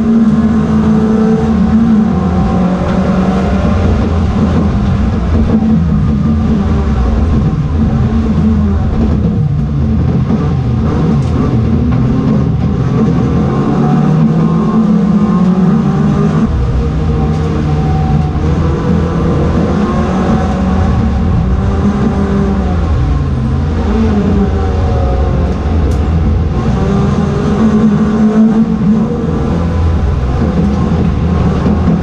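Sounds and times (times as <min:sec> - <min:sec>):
racing car engine revving: 0:00.0 - 0:32.0.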